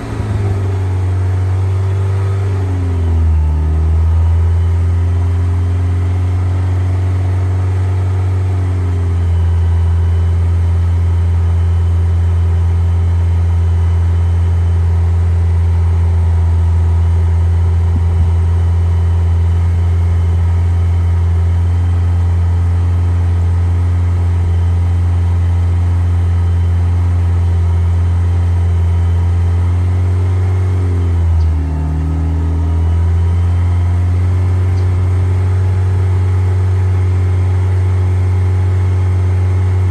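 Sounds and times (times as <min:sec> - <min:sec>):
car engine running above idle: 0:00.0 - 0:39.9.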